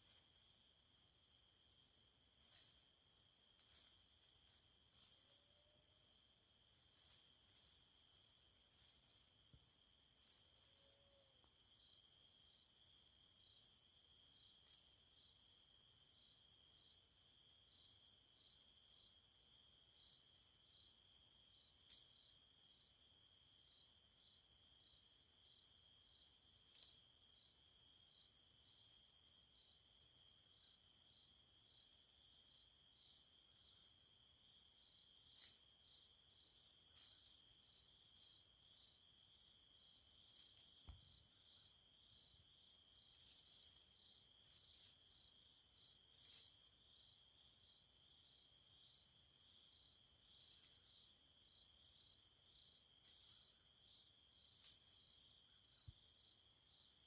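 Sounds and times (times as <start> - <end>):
high-pitched insect trill: 0.0 - 57.0
pulsing insect chirp: 0.0 - 57.0.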